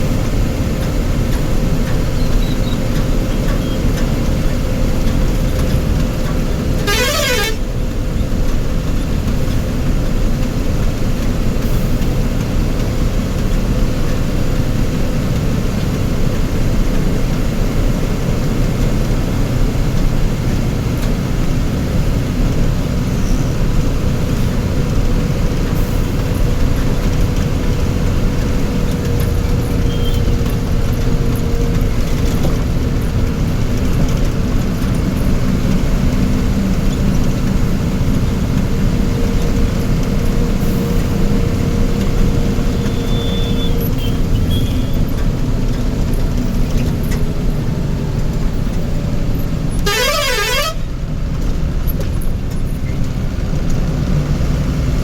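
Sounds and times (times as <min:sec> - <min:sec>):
road traffic noise: 0:00.0 - 0:55.0
vehicle engine: 0:00.0 - 0:55.0.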